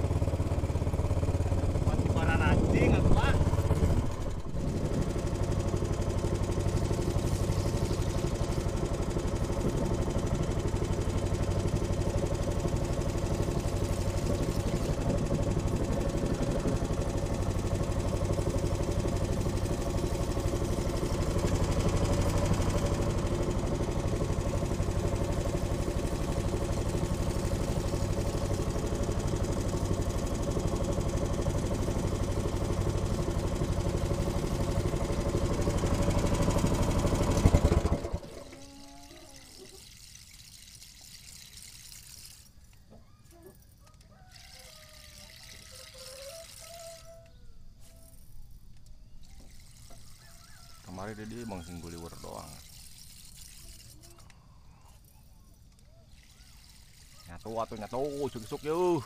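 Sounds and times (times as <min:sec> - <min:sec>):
boat engine running: 0:00.0 - 0:42.3, 0:49.2 - 0:54.3, 0:56.1 - 0:59.0.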